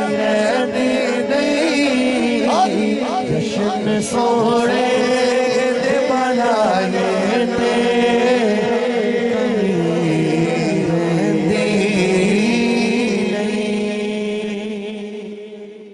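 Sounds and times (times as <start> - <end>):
man singing unaccompanied: 0.0 - 15.9.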